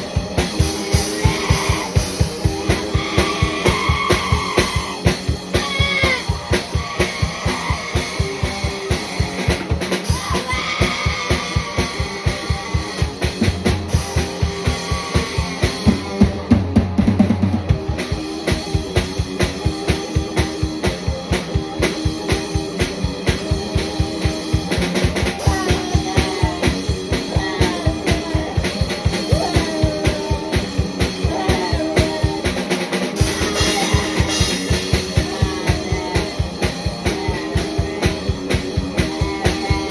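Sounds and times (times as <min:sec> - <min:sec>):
fast steady drum beat: 0:00.0 - 0:39.9
rock guitar: 0:00.0 - 0:39.9.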